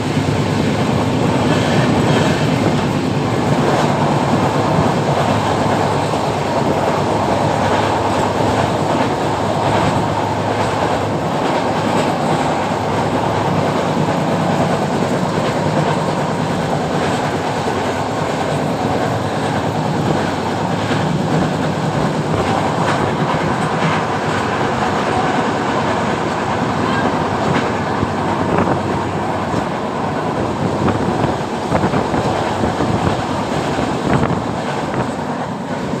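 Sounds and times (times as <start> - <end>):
train rumbling: 0.0 - 36.0
wheels clacking over rails: 0.0 - 36.0.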